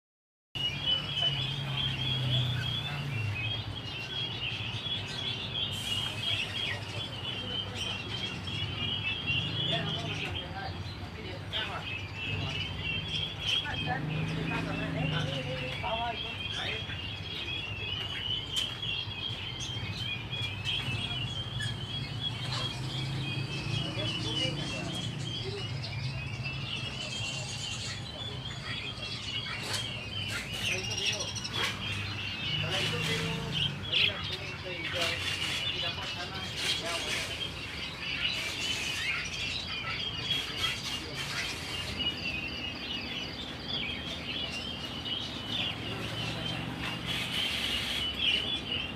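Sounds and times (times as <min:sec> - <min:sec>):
small birds chirping: 0:00.6 - 0:48.9.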